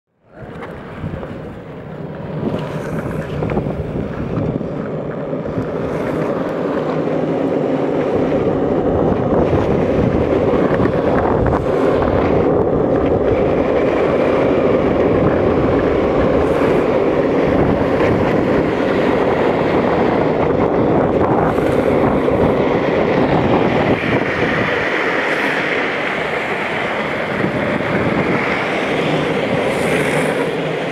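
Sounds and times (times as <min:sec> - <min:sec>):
skateboard wheels rolling on asphalt: 0:00.1 - 0:30.9
wind buffeting microphone: 0:00.2 - 0:30.9.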